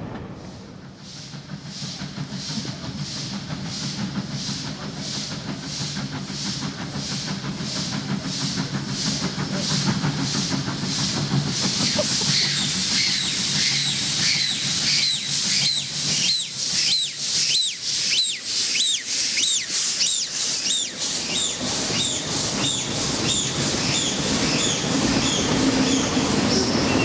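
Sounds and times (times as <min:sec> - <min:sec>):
steam locomotive chuffing: 0:00.0 - 0:27.0
train coaches rolling past: 0:00.0 - 0:27.0
steam hissing: 0:00.3 - 0:27.0.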